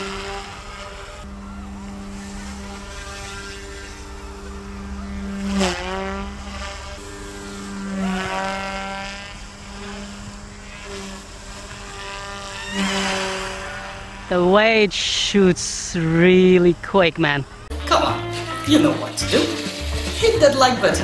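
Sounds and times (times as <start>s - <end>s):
rc helicopter rotors whining: 0.0s - 16.7s, 17.5s - 21.0s.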